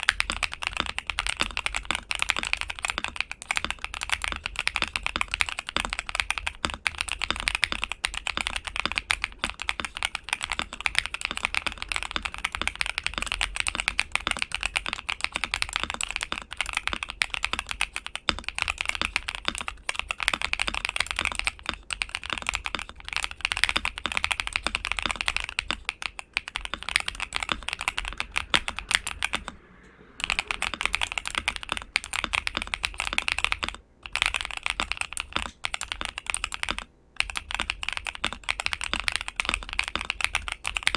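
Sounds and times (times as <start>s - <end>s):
mechanical keyboard typing: 0.0s - 29.6s, 30.2s - 40.9s.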